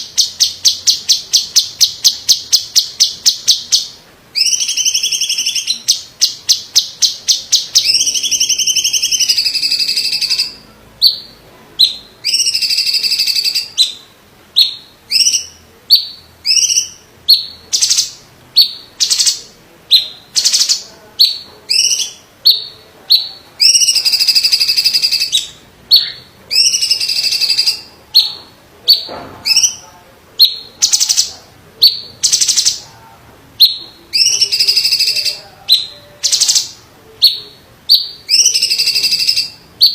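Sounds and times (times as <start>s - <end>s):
bird singing trills and whistles: 0.0s - 29.8s, 30.4s - 32.8s, 33.6s - 39.9s.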